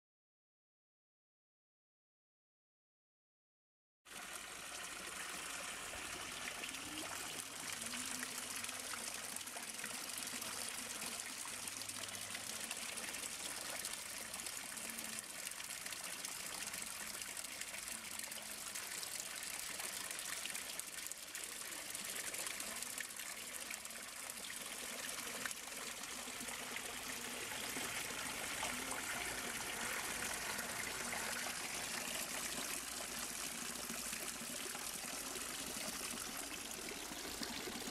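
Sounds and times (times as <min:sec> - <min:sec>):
water pouring from spouts: 0:04.1 - 0:37.9
water splashing into pool: 0:04.1 - 0:37.9.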